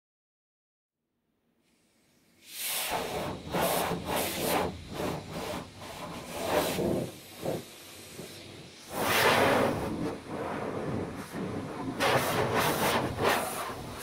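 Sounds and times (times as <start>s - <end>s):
water spray hissing on car body: 2.3s - 14.0s.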